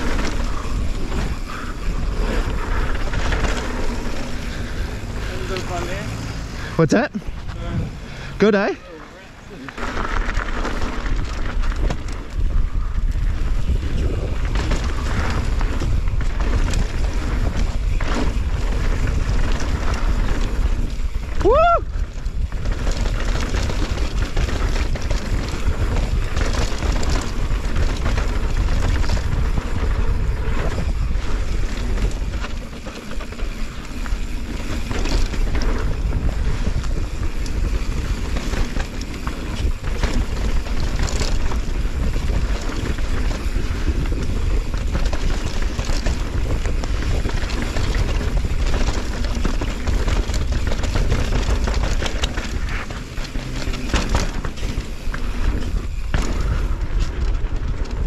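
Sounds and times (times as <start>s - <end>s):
wind buffeting microphone: 0.0s - 8.7s, 9.5s - 58.0s
bike rattling over bumps: 0.0s - 58.0s
tyres rolling on dirt: 0.0s - 58.0s.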